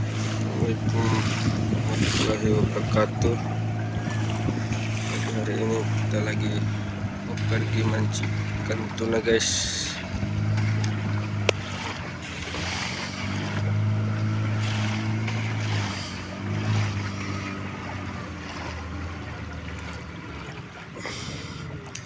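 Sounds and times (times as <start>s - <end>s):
boat engine running: 0.0s - 22.0s
waves: 0.0s - 22.0s
wind on open water: 0.0s - 22.0s.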